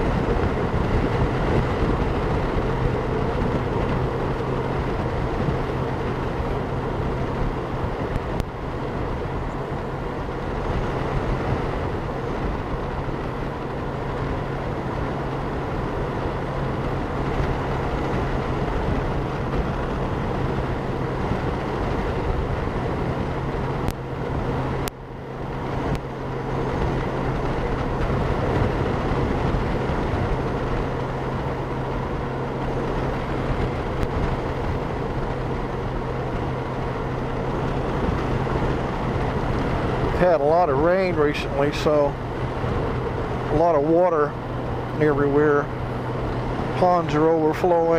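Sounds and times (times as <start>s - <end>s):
motorcycle engine hum: 0.0s - 47.9s
wind and road noise: 0.0s - 47.9s.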